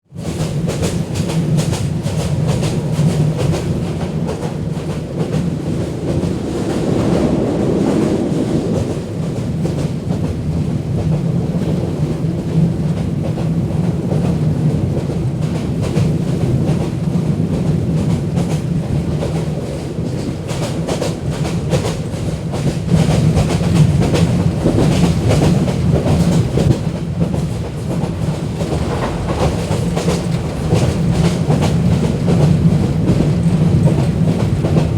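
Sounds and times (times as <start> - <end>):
train rumbling: 0.1 - 34.9.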